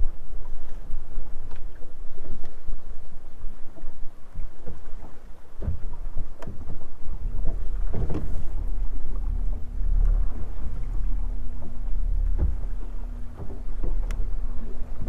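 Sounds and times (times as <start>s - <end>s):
steady low hum: 0.0s - 15.0s
waves slapping boat hull: 0.0s - 15.0s
wind buffeting microphone: 0.0s - 15.0s.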